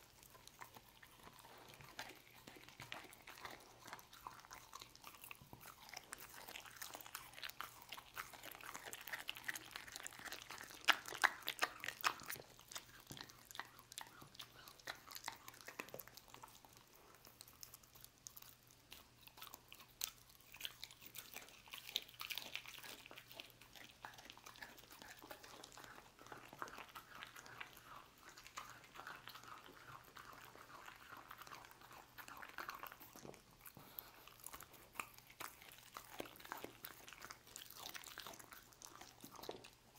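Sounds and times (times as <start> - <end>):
dog chewing meat: 0.0 - 39.9.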